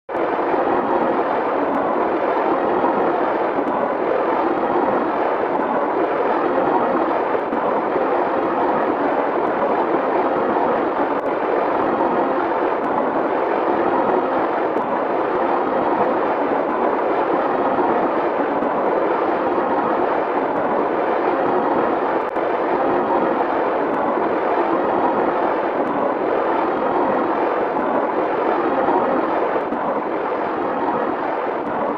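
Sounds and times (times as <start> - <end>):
steady rushing noise: 0.1 - 31.9.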